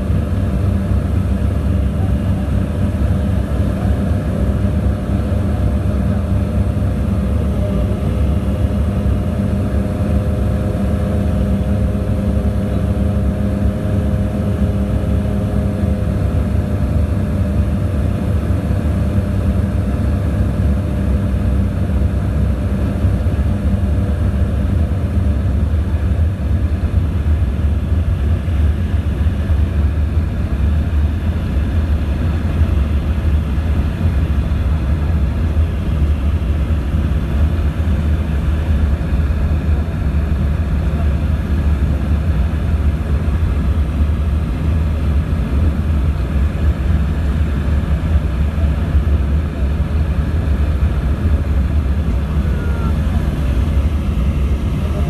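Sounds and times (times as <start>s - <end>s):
airplane cabin drone: 0.0s - 55.0s
propeller hum: 0.0s - 55.0s.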